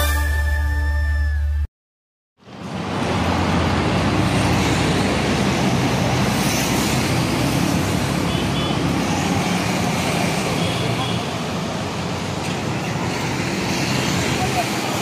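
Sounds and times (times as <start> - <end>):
roadside traffic noise: 2.4 - 15.0
motorcycles passing: 2.6 - 15.0.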